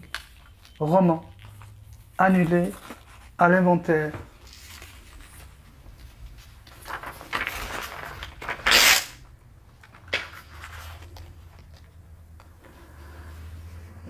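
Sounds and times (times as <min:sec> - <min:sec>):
paper pages rustling: 0:00.0 - 0:09.0, 0:09.7 - 0:13.8.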